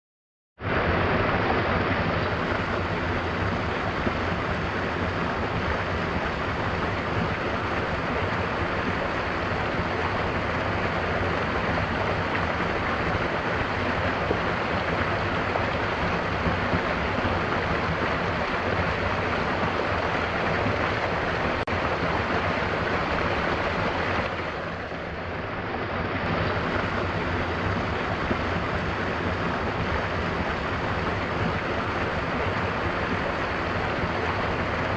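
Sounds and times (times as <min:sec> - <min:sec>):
waterfall splashing roar: 0:00.6 - 0:34.9.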